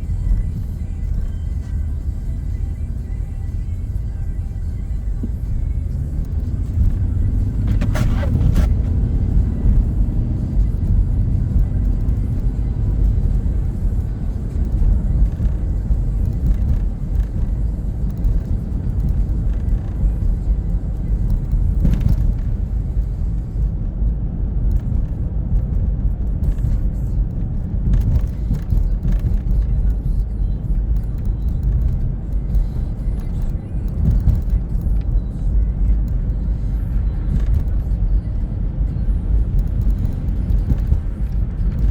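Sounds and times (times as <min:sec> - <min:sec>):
car cabin road rumble: 0:00.0 - 0:41.9.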